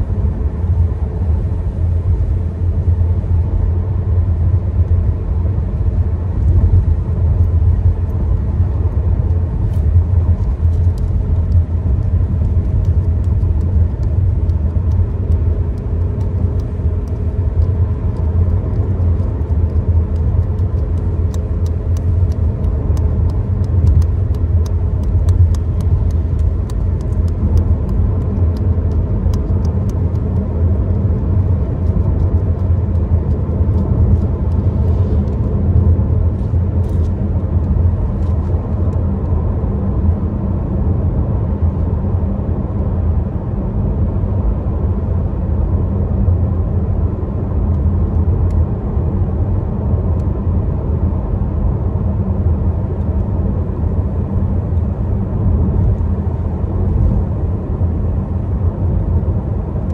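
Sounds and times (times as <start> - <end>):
engine and road rumble: 0.0 - 59.9.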